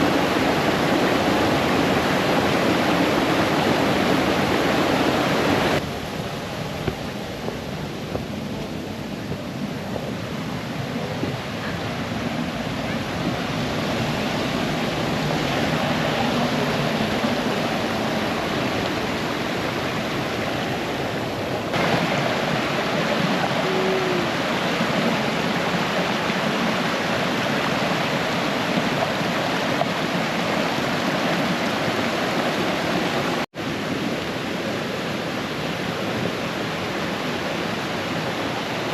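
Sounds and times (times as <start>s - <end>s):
brook cascading over stones: 0.0s - 38.9s.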